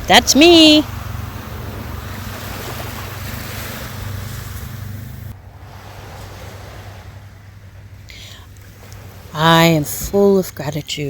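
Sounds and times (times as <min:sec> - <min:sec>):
wind rumbling on microphone: 0:00.0 - 0:10.3
ocean surf washing on shore: 0:00.0 - 0:11.0.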